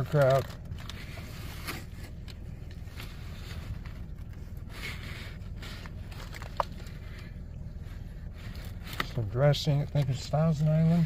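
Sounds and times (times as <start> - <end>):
paper wrapper crinkling: 0.0 - 9.2
low hum inside car: 0.0 - 11.0.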